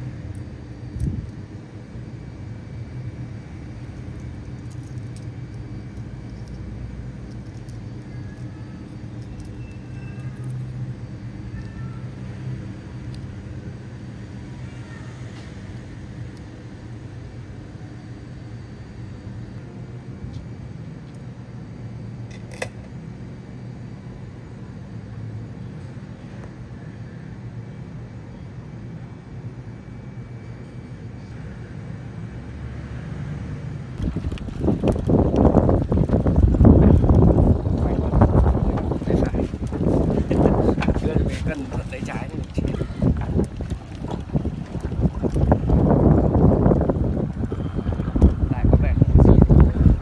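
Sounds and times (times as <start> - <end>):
low motor rumble: 0.0 - 50.0.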